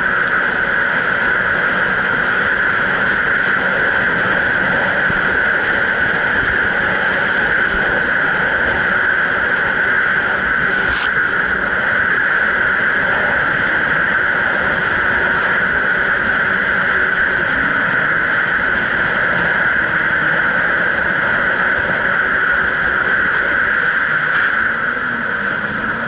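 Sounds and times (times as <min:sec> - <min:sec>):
jet ski engine drone: 0:00.0 - 0:26.0.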